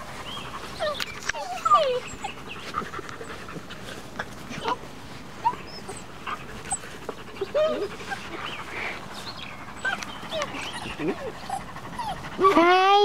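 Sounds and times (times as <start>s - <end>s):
puppies squeaking and whimpering: 0.0s - 3.7s, 4.4s - 13.0s.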